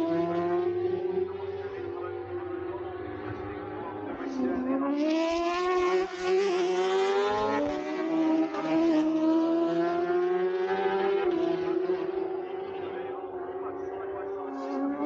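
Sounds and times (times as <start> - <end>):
racing motorcycles accelerating: 0.0 - 15.0.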